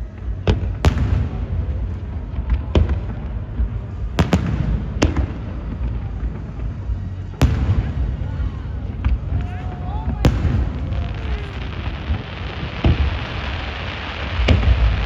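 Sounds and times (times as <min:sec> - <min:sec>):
low rumble of distant bursts: 0:00.0 - 0:15.0.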